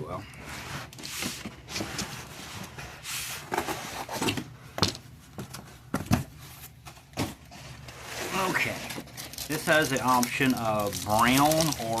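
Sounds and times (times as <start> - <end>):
cardboard rustling and scraping: 0.4 - 4.6, 5.2 - 12.0.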